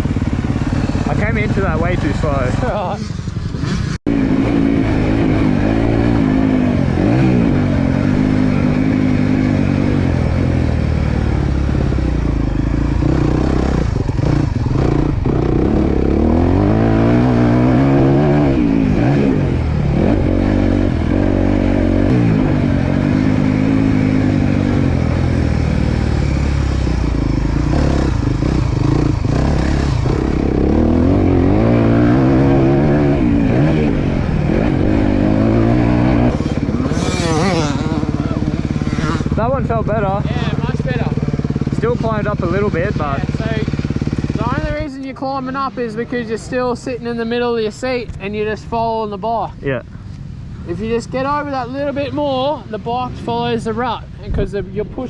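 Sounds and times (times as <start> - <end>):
motocross bike engine revving: 0.0 - 49.8.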